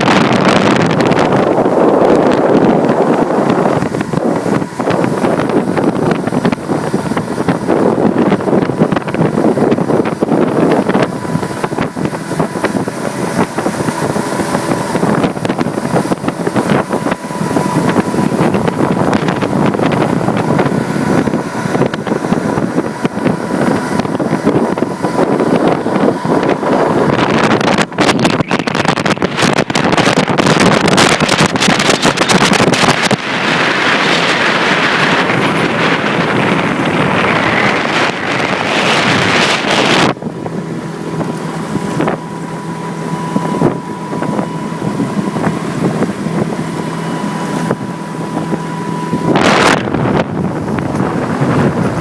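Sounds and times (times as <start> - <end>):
outboard motor running: 0.0 - 52.0
wind buffeting microphone: 0.0 - 52.0.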